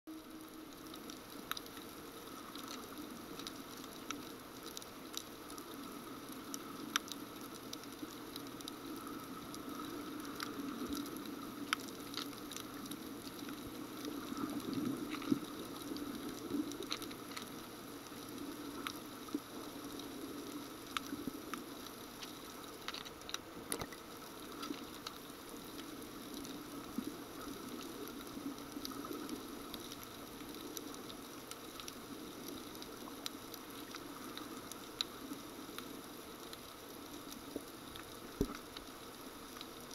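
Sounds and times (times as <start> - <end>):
muffled underwater hiss: 0.1 - 39.9
sharp clicks and crackles: 0.1 - 39.9.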